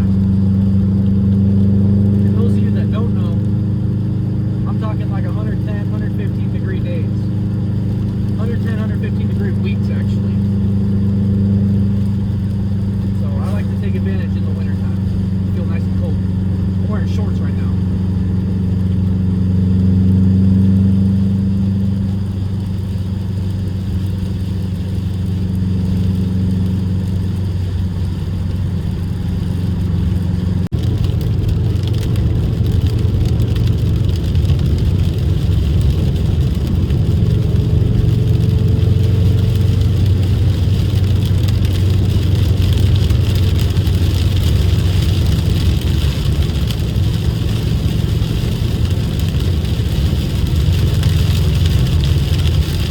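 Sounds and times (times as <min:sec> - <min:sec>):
car engine running: 0:00.0 - 0:52.9.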